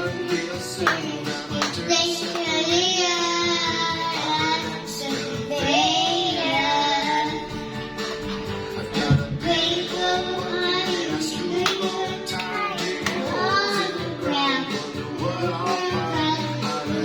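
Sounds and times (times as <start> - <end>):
child singing: 0.0 - 7.6, 8.9 - 17.0.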